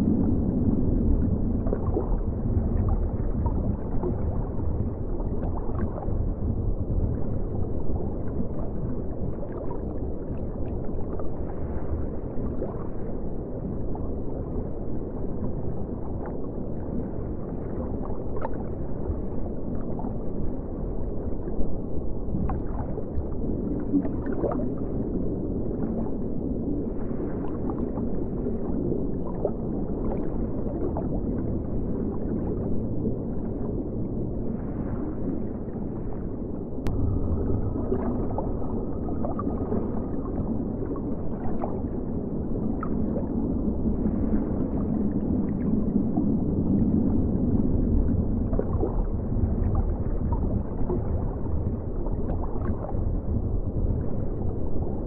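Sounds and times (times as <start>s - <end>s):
water rumbling and gurgling: 0.0s - 55.0s.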